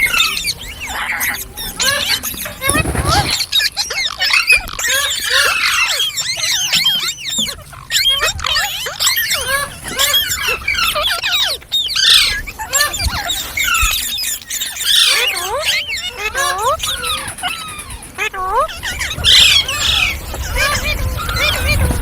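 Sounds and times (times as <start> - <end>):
parrots chattering: 0.0 - 22.0.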